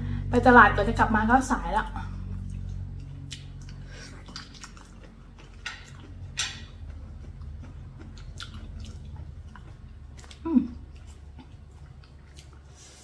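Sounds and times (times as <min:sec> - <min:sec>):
low steady hum: 0:00.0 - 0:13.0
person chewing food: 0:02.2 - 0:13.0.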